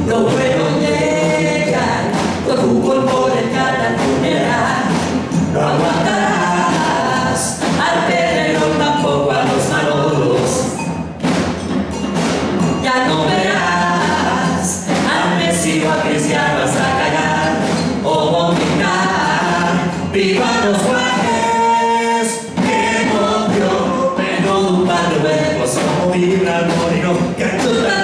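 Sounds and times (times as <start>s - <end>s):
chorus singing together: 0.0s - 28.0s.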